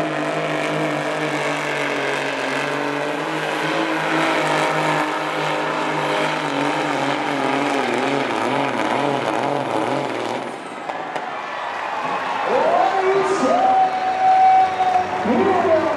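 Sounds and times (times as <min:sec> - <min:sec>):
truck diesel engine under load: 0:00.0 - 0:15.9.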